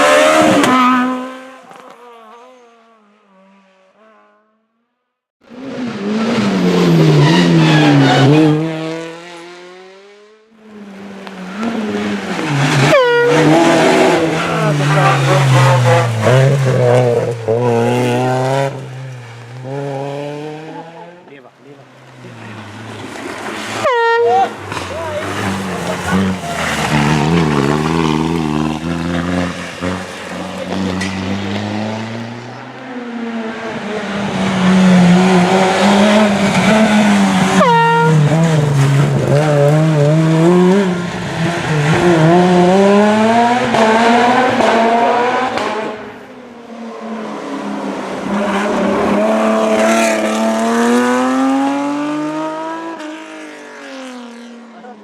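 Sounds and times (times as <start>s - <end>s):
rally car engines revving: 0.0s - 4.4s, 5.4s - 55.0s.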